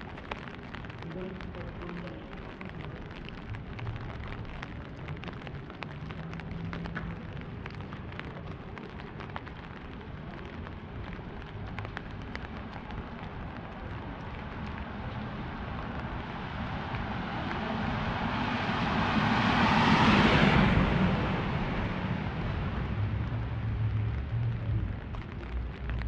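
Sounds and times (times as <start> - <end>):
light rain hissing: 0.0 - 26.0
low rumble: 0.0 - 26.0.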